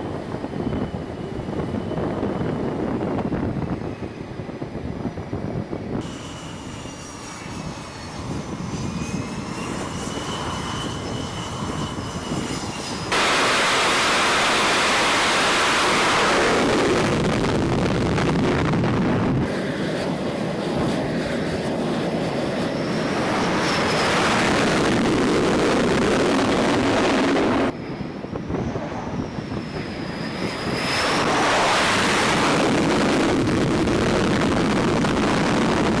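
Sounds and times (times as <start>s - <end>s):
high turbine whine: 0.0s - 36.0s
jet engines roaring: 0.0s - 36.0s.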